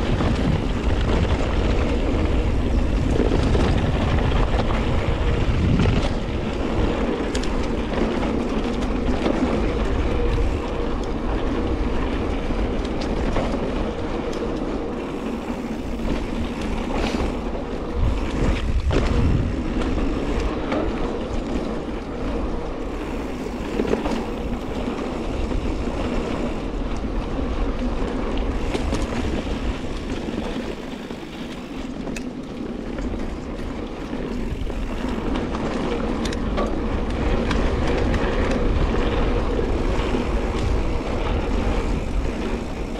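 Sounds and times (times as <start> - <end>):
bike rattling: 0.0 - 42.9
bike tyres rolling on dirt: 0.0 - 42.9.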